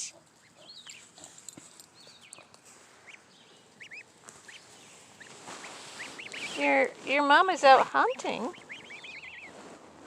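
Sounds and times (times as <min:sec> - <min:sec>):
goslings peeping: 0:00.0 - 0:01.4, 0:02.0 - 0:09.7.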